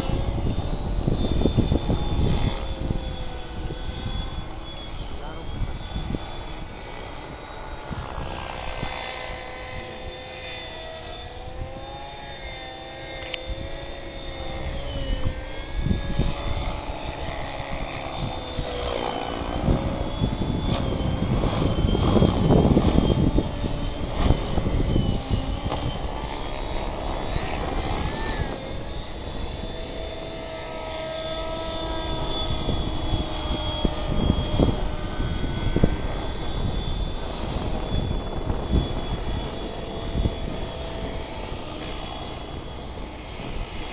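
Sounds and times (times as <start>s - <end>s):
rc helicopter motor and rotor whine: 0.0s - 43.9s.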